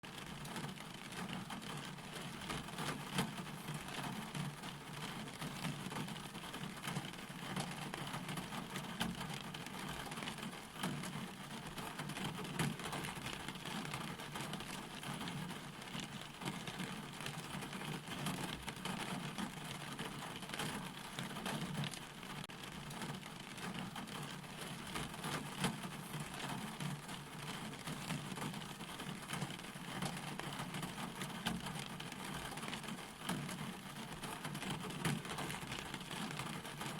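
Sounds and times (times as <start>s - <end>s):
steady rain falling: 0.0s - 36.9s
raindrops ticking: 0.1s - 36.9s.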